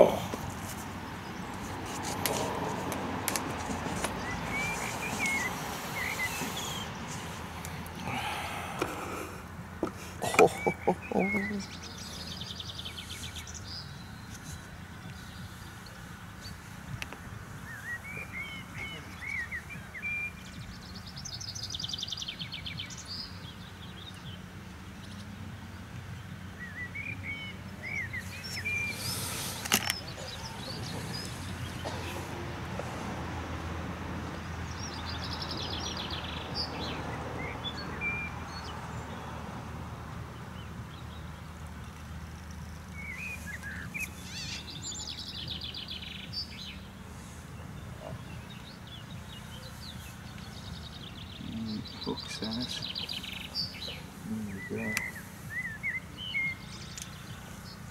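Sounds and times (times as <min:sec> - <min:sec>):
songbird chirps and buzzy trill: 0:03.9 - 0:08.5, 0:09.4 - 0:31.9, 0:34.4 - 0:57.9.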